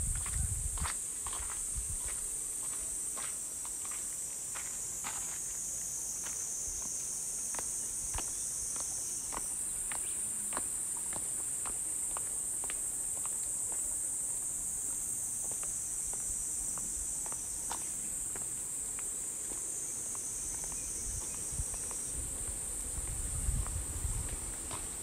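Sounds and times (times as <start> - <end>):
cicadas droning: 0.0 - 25.0
footsteps on stone path: 0.0 - 25.0.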